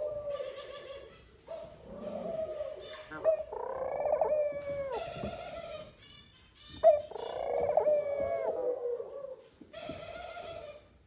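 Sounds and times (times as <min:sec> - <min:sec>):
dove cooing: 0:00.0 - 0:06.0, 0:06.7 - 0:10.9.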